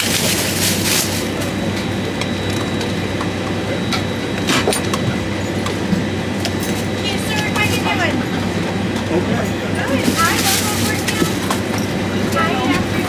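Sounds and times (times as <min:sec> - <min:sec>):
aircraft cabin air hum: 0:00.0 - 0:13.0.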